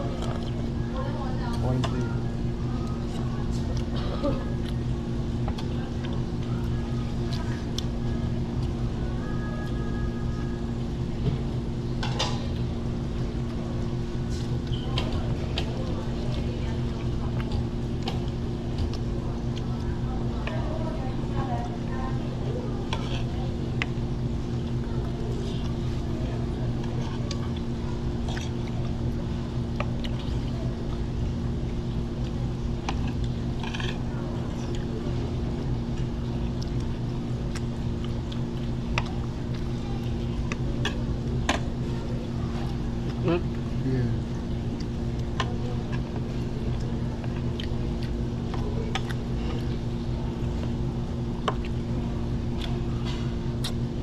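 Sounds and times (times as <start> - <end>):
low hum of machinery: 0.0 - 54.0.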